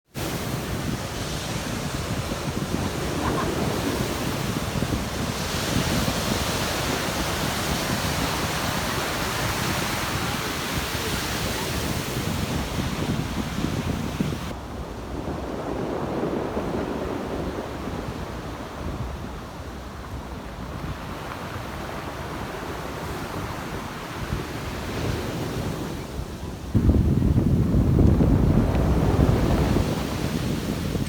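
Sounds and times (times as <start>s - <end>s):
wind rumble on microphone: 0.1s - 31.0s
waves washing over rocks: 0.2s - 31.0s.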